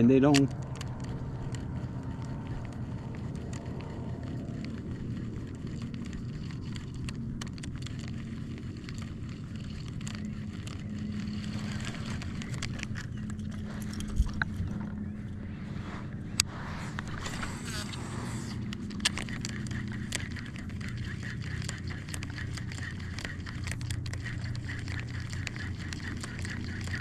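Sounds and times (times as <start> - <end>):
faint clicks: 0.0 - 15.4, 16.4 - 27.0
low motor hum: 0.0 - 27.0.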